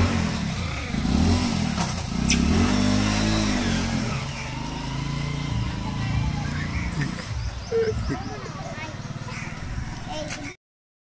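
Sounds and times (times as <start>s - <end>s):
vehicle engine revving: 0.0s - 10.1s.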